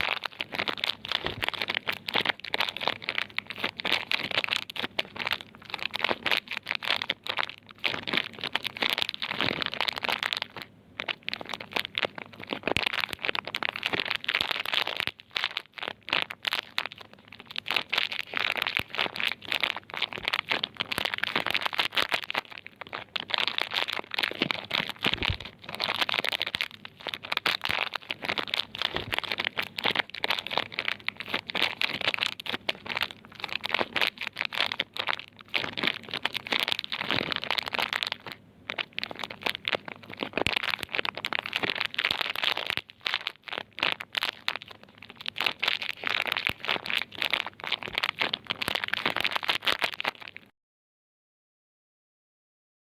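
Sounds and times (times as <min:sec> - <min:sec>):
wrappers crinkling: 0:00.0 - 0:50.5.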